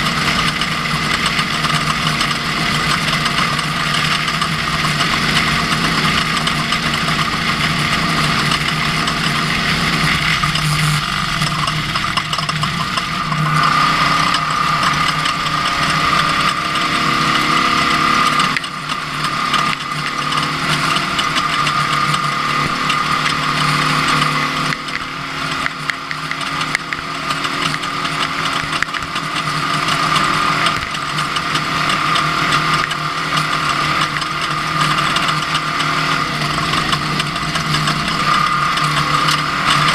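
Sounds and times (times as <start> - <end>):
truck engine whining and clattering: 0.0 - 39.9.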